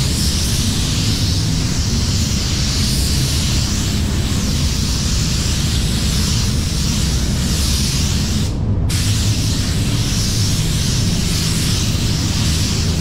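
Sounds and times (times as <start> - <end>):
spray gun hissing: 0.0 - 13.0
steady low rumble: 0.0 - 13.0.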